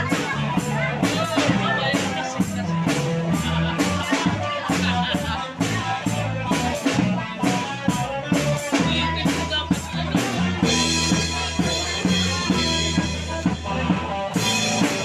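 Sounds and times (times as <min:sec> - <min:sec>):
bass line: 0:00.0 - 0:15.0
dance music drum beat: 0:00.0 - 0:15.0.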